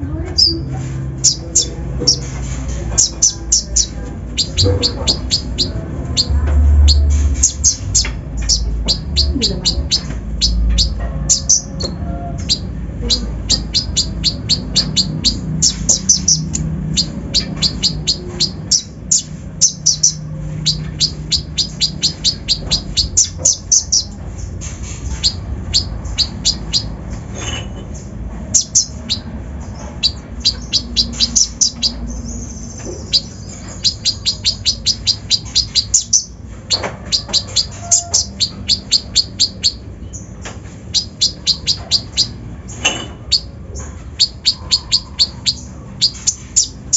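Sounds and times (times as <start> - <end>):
sunbird chattering song: 0.2 - 46.9.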